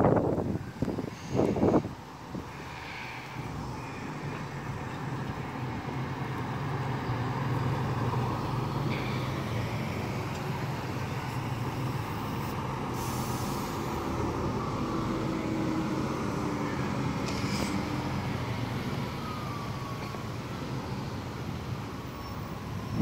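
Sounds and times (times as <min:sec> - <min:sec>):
bus engine drone with road noise: 0:00.0 - 0:23.0.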